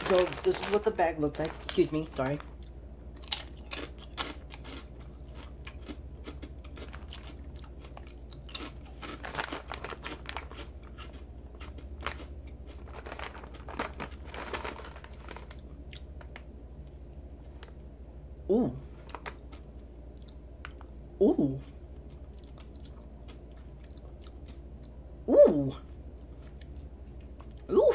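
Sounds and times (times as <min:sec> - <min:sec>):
crunchy chewing of snack: 0:00.0 - 0:16.5, 0:18.8 - 0:21.0, 0:21.6 - 0:25.0, 0:25.8 - 0:27.7
steady low hum: 0:00.0 - 0:27.9.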